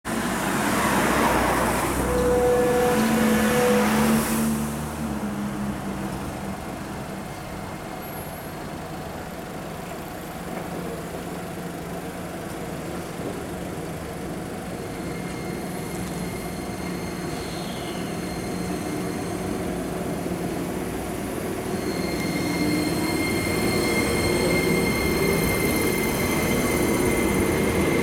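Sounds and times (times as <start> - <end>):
approaching train: 0.1 - 28.0
low hum of street traffic: 0.1 - 28.0.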